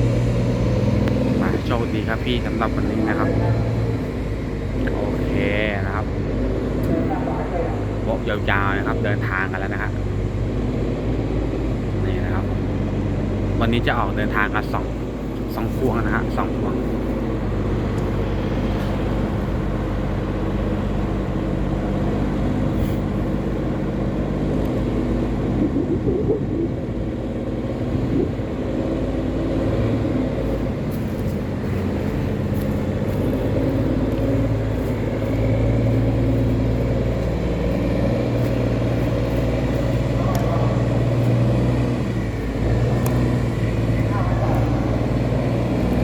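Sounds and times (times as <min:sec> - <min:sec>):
boat diesel engine droning: 0:00.0 - 0:46.0.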